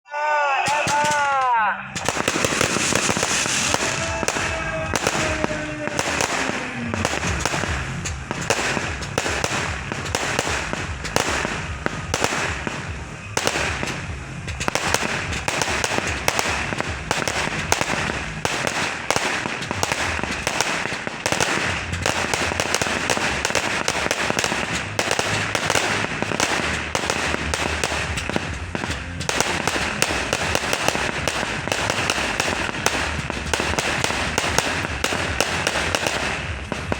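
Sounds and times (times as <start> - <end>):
fireworks bangs and crackles: 0.6 - 36.9
falling firework whistles: 1.9 - 36.9.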